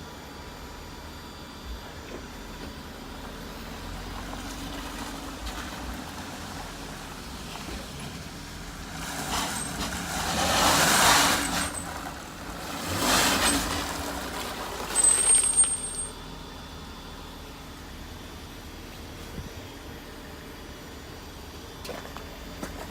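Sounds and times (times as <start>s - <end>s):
vehicle hum on snowy road: 0.0s - 22.9s.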